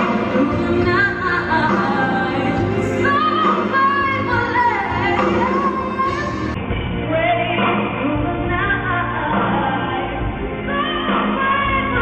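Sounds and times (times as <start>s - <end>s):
music accompaniment: 0.0s - 12.0s.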